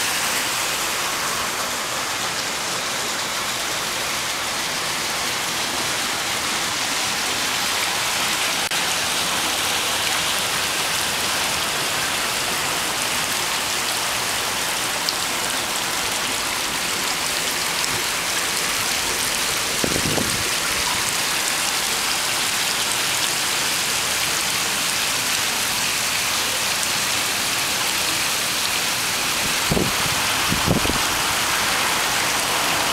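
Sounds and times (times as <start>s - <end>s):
water running down stone wall: 0.0s - 32.9s.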